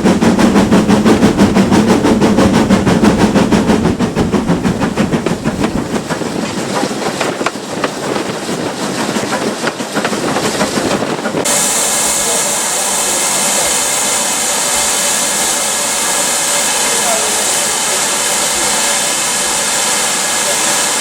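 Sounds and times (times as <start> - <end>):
steam train running past: 0.0 - 21.0.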